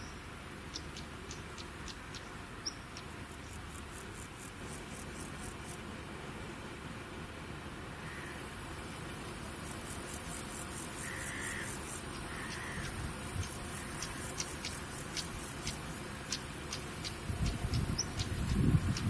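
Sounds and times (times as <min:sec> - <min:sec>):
insects chirping: 0:00.0 - 0:05.9, 0:08.0 - 0:19.0
steady high hiss: 0:00.0 - 0:19.0.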